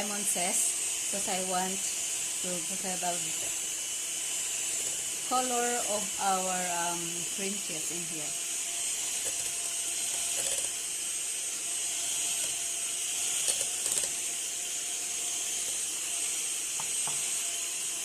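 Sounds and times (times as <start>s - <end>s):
electric hand mixer running: 0.0s - 18.0s.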